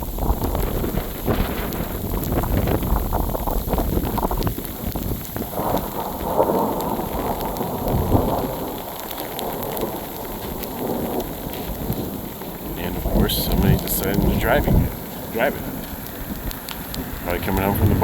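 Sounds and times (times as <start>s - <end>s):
thunder rumbling: 0.0s - 18.0s.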